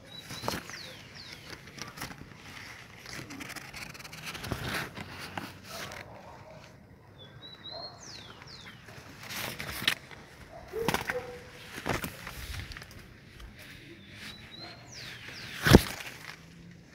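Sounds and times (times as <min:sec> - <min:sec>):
rustling leaves and branches: 0:00.0 - 0:16.9.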